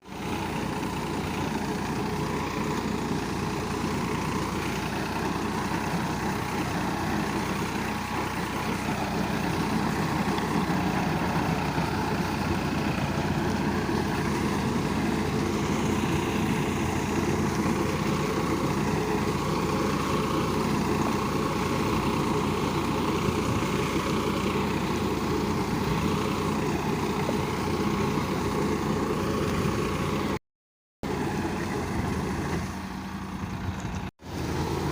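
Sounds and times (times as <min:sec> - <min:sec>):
tractor diesel engine under load: 0:00.0 - 0:30.4, 0:31.0 - 0:34.9.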